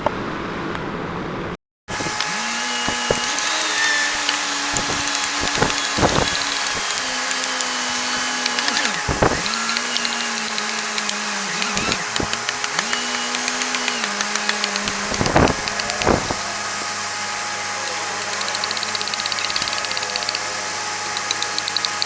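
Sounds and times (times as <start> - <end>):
power tool motor cutting wood: 1.9 - 22.0.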